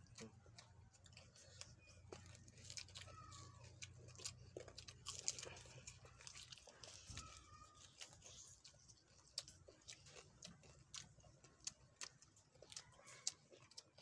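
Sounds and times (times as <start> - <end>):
chewing and crunching: 0.0 - 14.0
faint low hum: 0.0 - 14.0.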